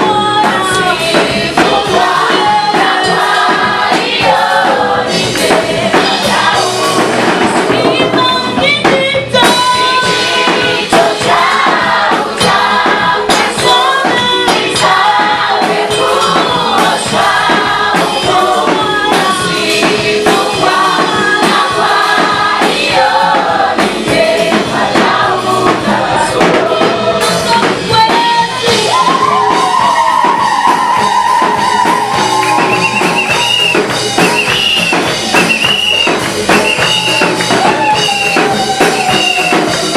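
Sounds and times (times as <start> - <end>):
band accompaniment: 0.0 - 39.9
choir singing gospel music: 0.0 - 39.9.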